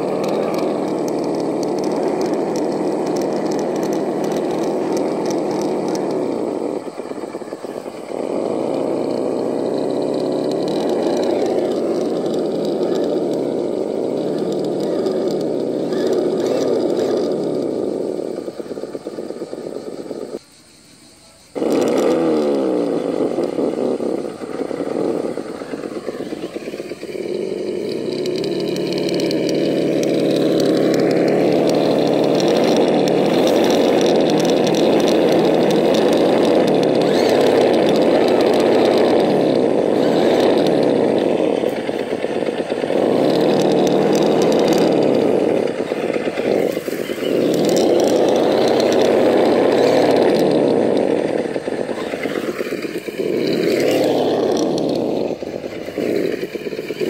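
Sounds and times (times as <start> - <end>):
toy car motor whining: 0.0 - 57.0.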